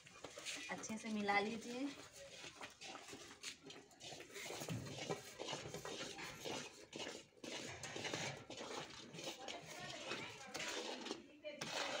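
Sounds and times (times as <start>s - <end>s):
spatula scraping metal wok: 1.6s - 12.0s.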